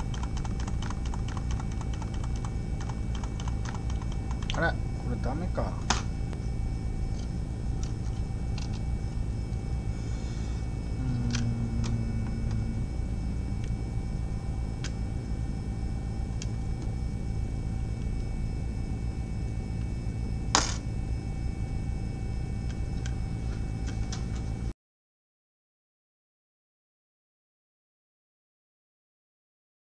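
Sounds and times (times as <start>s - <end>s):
steady low hum: 0.0s - 24.7s.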